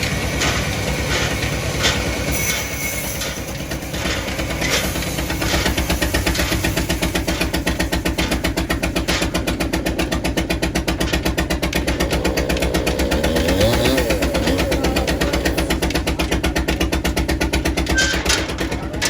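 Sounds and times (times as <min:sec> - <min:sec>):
sawmill machinery pulsing: 0:00.0 - 0:18.3.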